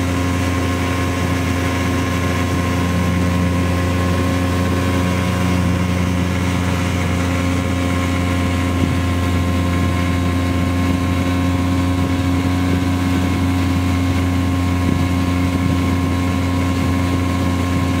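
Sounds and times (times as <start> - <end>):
boat engine running: 0.0 - 18.0
water wash rushing: 0.0 - 18.0.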